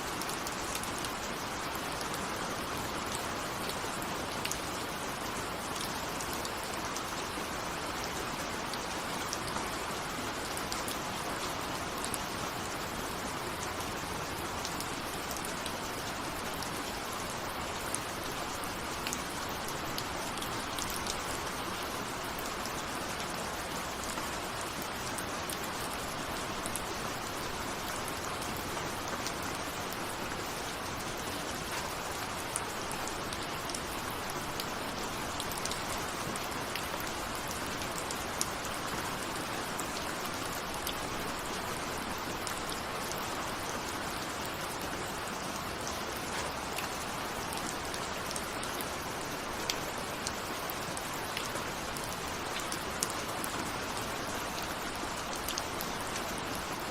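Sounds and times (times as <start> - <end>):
rain pattering on a window: 0.0 - 56.9.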